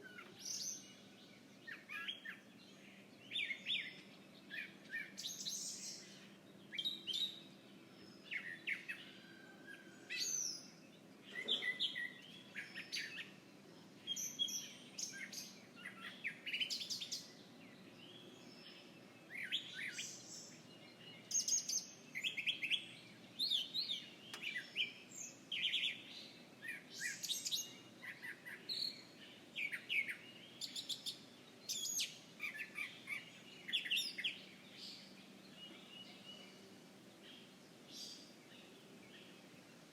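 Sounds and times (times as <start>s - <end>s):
faint distant background hum: 0.0s - 39.9s
small birds chirping: 0.0s - 39.9s.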